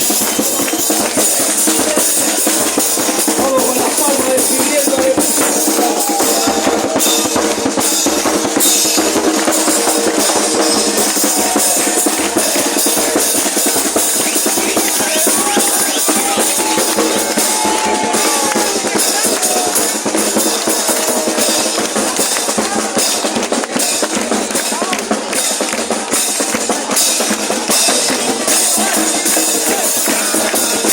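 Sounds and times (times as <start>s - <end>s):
bass drum: 0.0s - 30.9s
snare drum: 0.0s - 30.9s.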